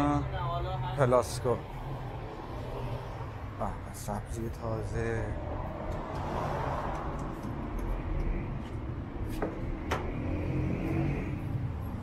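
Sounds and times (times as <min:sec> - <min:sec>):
low hum of traffic: 0:00.0 - 0:12.0.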